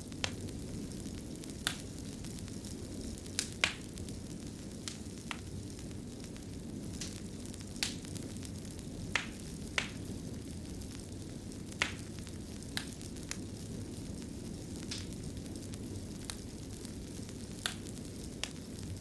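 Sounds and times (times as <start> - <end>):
fire crackling and popping: 0.0 - 19.0
fire flames rushing: 0.0 - 19.0.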